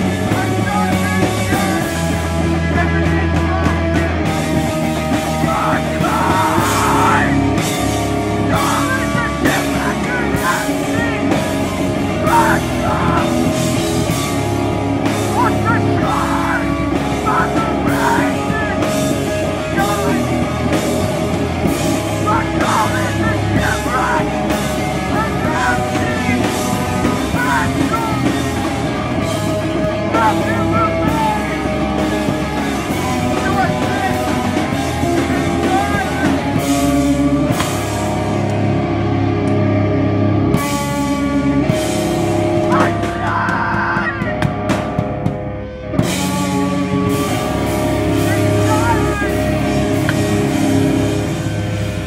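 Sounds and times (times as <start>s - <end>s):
punk band playing live: 0.0s - 52.0s.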